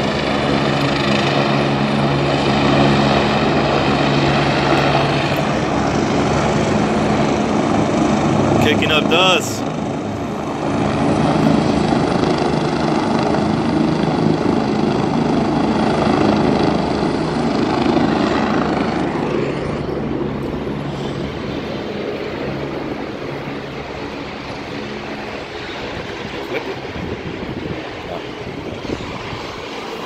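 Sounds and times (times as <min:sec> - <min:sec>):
helicopter rotor and engine: 0:00.0 - 0:30.0.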